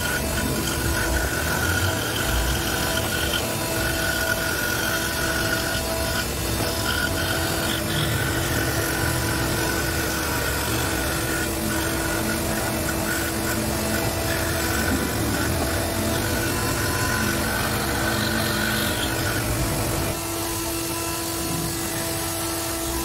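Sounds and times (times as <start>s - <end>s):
scroll saw cutting acrylic: 0.0s - 23.0s.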